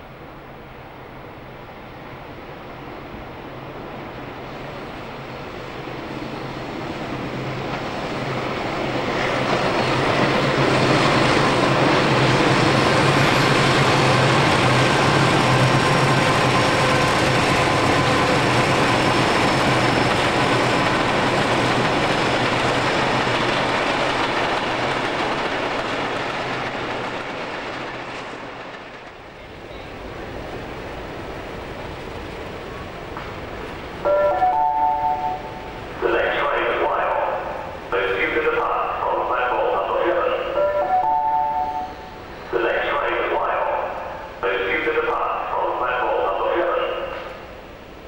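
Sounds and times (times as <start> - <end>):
diesel locomotive engines droning: 0.0 - 48.0
train rumble: 0.0 - 48.0.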